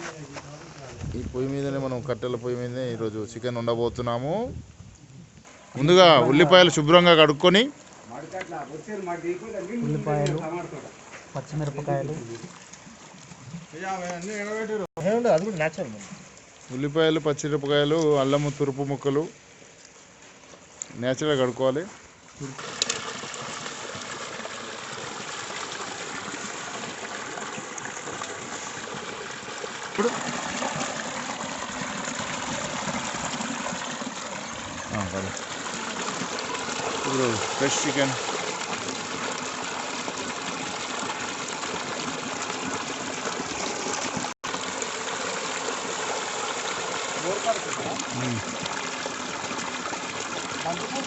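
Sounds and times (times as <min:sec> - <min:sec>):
running water gushing: 0:05.4 - 0:51.0.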